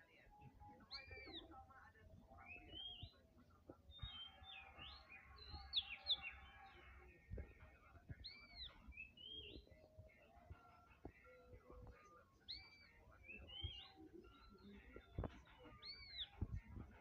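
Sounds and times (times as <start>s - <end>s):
songbirds chirping: 0.0s - 17.0s
whistled bird notes: 0.0s - 17.0s.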